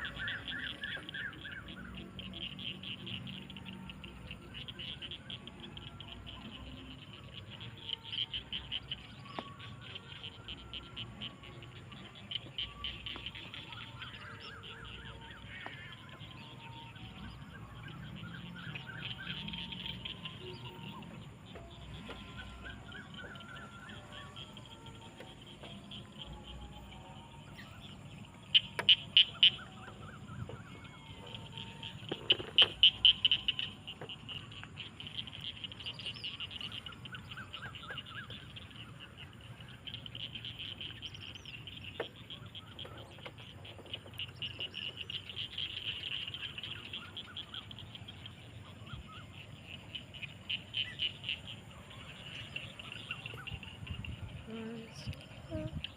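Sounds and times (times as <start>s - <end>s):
frogs and insects trilling: 0.0s - 55.9s
rapid pulsed frog calls: 0.0s - 55.9s.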